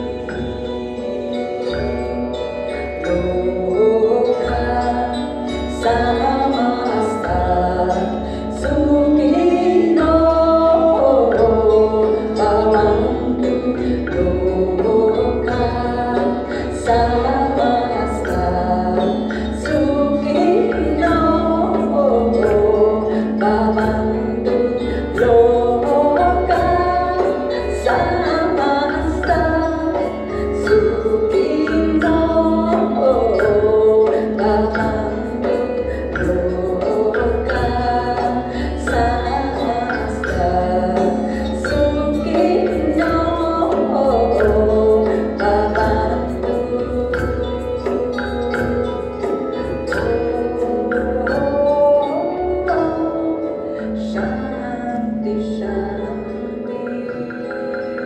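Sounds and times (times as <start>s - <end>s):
instruments accompanying: 0.0s - 58.0s
light percussion strikes: 0.0s - 58.0s.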